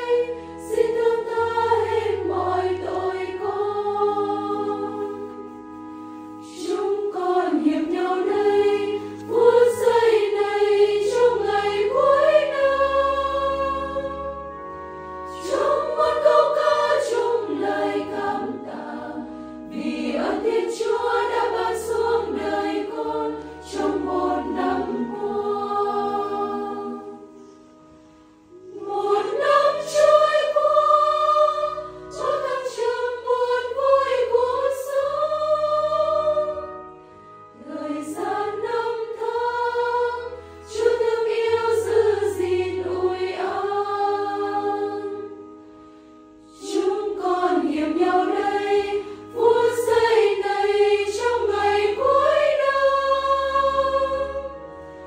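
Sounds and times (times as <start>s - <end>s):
women's choir singing a hymn: 0.0s - 27.6s, 28.5s - 55.0s
low sustained notes: 0.0s - 55.0s.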